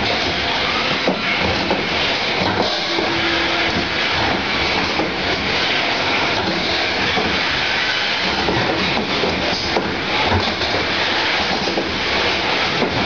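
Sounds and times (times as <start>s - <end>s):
filling machines running: 0.0s - 13.0s.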